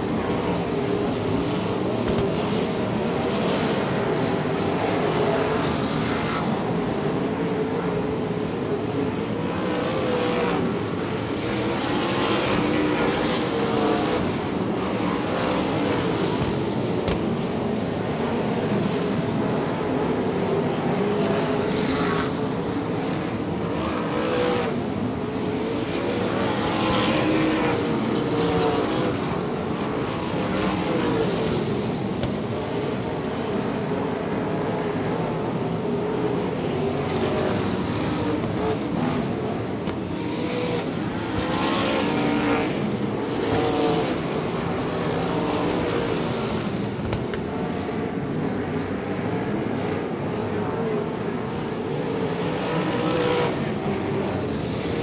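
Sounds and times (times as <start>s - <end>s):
race car engines racing: 0.0s - 55.0s.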